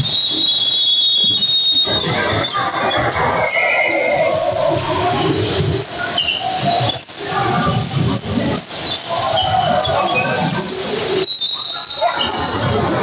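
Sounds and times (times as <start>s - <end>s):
gym hubbub: 0.0s - 13.0s.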